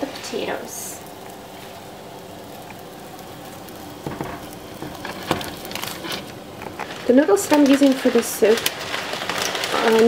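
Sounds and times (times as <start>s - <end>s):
broth boiling in pot: 0.0s - 10.0s.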